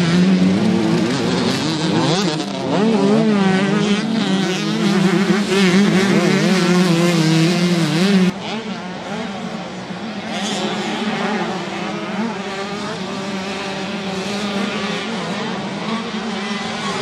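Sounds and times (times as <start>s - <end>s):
distant motorbike engines: 0.0s - 17.0s
motocross bike engines revving: 0.0s - 17.0s.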